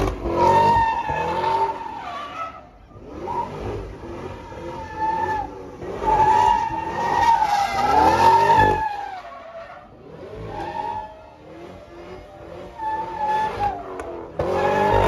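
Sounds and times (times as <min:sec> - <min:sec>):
car engine revving: 0:00.0 - 0:15.0
car tyres squealing: 0:00.0 - 0:15.0.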